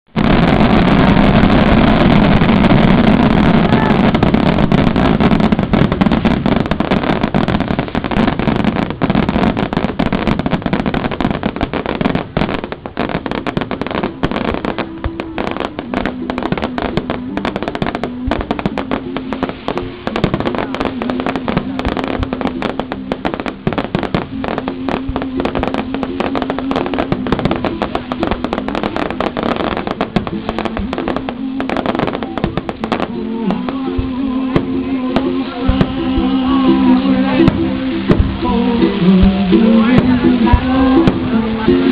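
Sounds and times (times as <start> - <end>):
fireworks bursting and crackling: 0.0 - 41.9
steady low tone: 0.6 - 41.9.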